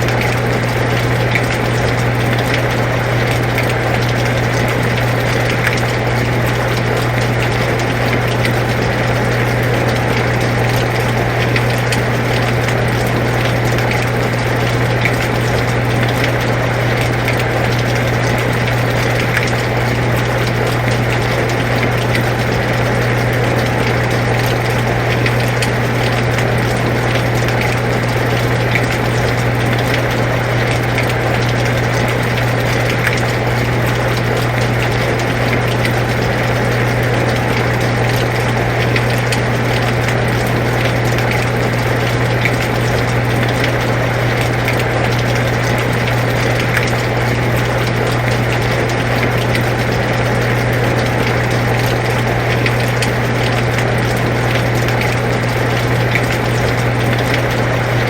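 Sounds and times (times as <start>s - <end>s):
air conditioner humming: 0.0s - 58.0s
steady rainfall: 0.0s - 58.0s.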